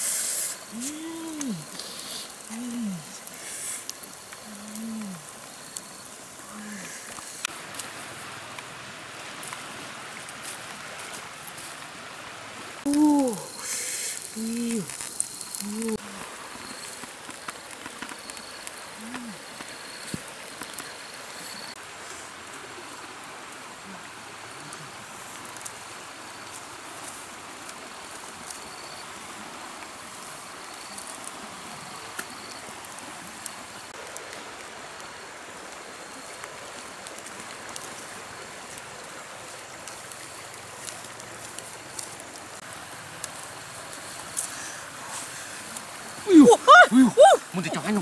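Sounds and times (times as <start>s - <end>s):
insect chirping: 0.0s - 48.0s.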